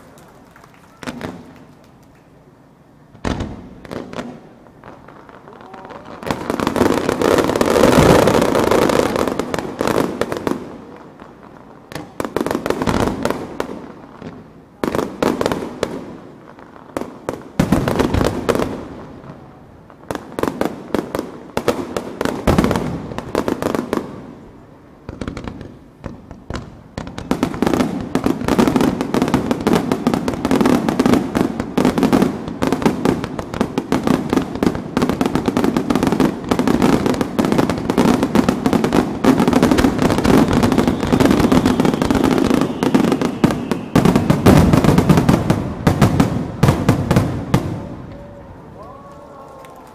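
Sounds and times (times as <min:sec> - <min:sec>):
fireworks crackling: 0:00.0 - 0:49.9
fireworks booming bangs: 0:00.9 - 0:01.9, 0:03.0 - 0:48.8.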